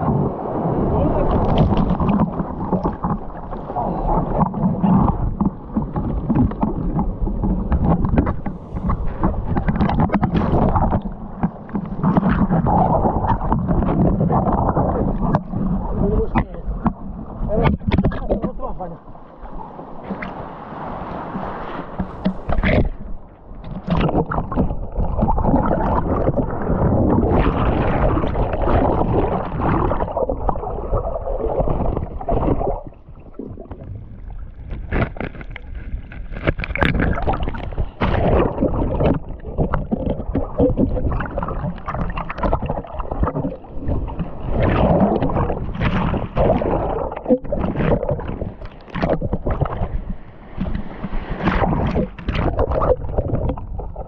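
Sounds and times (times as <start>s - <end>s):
kayak paddles splashing: 0.0s - 54.0s
water sloshing against kayak: 0.0s - 54.0s.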